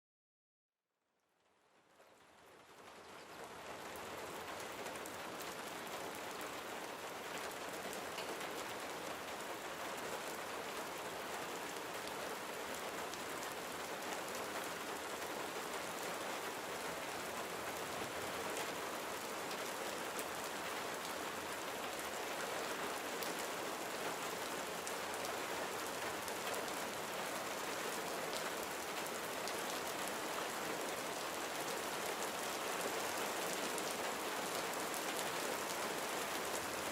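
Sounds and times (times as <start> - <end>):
rain pattering: 1.4 - 36.9.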